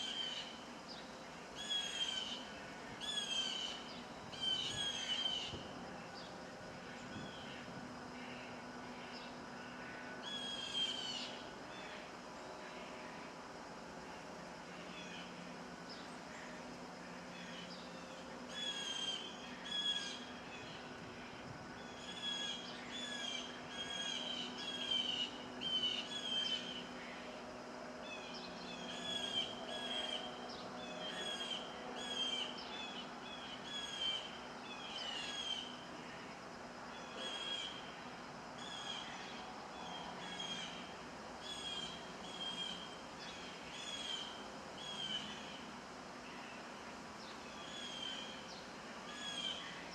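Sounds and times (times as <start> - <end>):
wind: 0.0 - 49.9.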